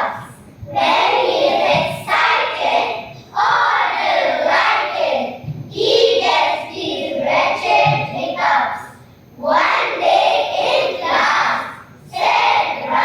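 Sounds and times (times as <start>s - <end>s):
children reciting in unison: 0.0s - 13.0s.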